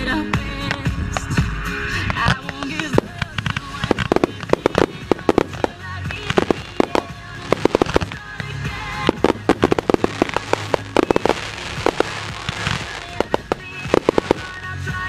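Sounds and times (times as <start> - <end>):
music playing: 0.0 - 15.0
fireworks popping and crackling: 2.1 - 15.0.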